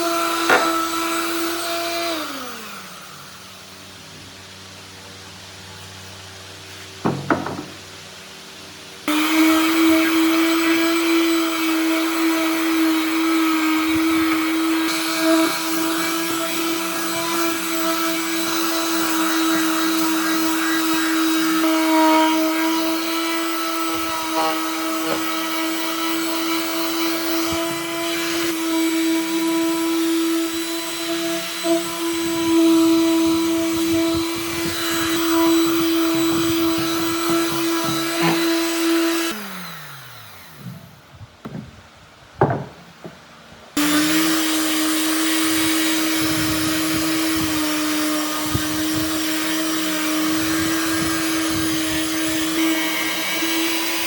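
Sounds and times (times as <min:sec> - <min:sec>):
electric power tool motor humming: 0:00.0 - 0:04.0, 0:09.0 - 0:41.6, 0:43.8 - 0:54.0.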